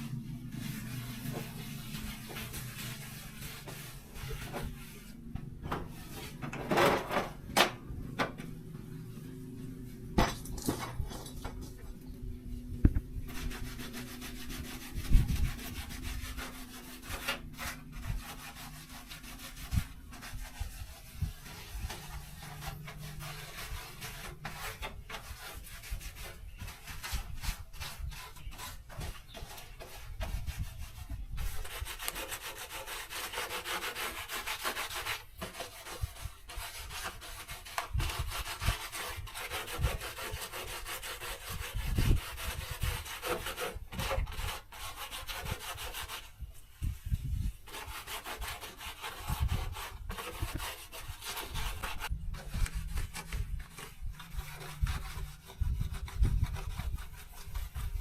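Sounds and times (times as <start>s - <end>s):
scraping and rubbing on parts: 0.0s - 58.0s.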